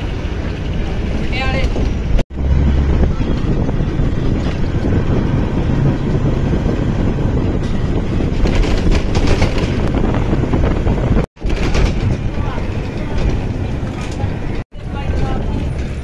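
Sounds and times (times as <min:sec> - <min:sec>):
train running rumble: 0:00.0 - 0:16.0
wind buffeting microphone: 0:00.0 - 0:16.0.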